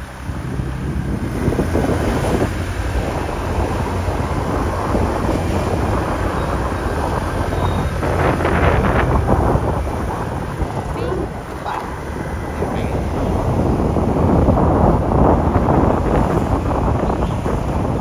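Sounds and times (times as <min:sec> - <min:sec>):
scooter engine rumble: 0:00.0 - 0:18.0
wind buffeting microphone: 0:00.0 - 0:18.0.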